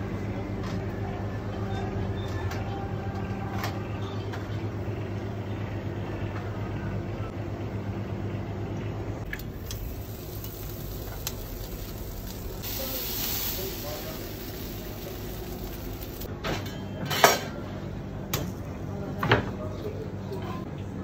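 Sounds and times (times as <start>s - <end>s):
kitchen machinery humming: 0.0s - 18.8s.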